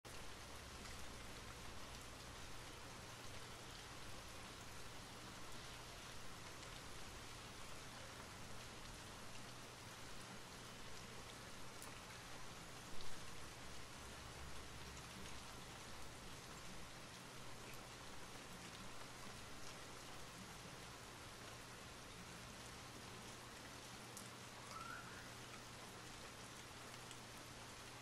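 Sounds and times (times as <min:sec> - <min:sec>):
rain pattering: 0:00.1 - 0:28.0.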